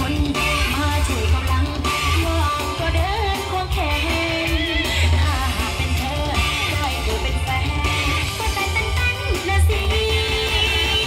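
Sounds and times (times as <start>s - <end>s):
song with guitar and bass: 0.0s - 11.0s.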